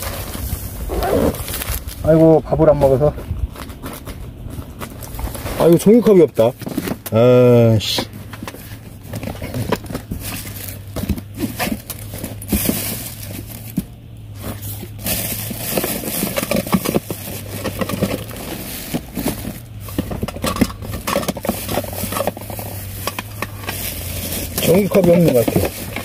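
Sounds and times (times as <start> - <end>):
plastic bag rustling: 0.0 - 7.0, 8.6 - 26.0
containers knocking and scraping: 2.2 - 26.0.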